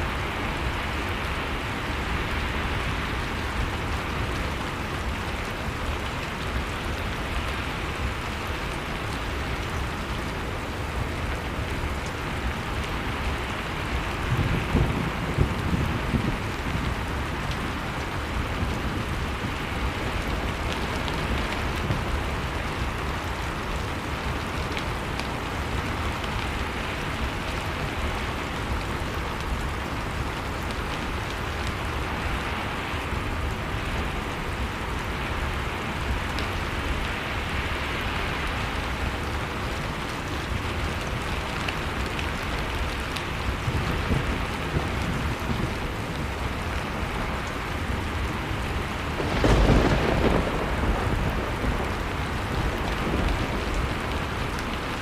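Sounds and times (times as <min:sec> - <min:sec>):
rushing storm wind: 0:00.0 - 0:55.0
wood fire crackling: 0:00.2 - 0:55.0.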